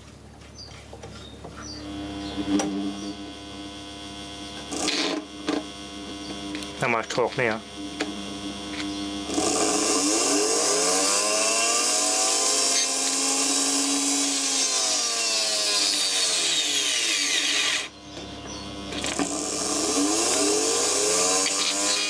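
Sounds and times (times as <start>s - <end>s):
electric motor whining: 1.6s - 22.0s
motor sparking crackle: 1.8s - 22.0s.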